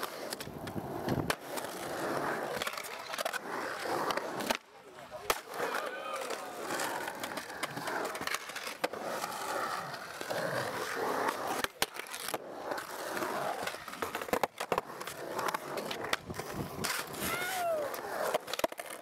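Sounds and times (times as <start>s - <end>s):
sharp skateboard clacks: 0.0s - 9.4s, 10.2s - 19.0s
skateboard wheels rolling on concrete: 0.0s - 19.0s.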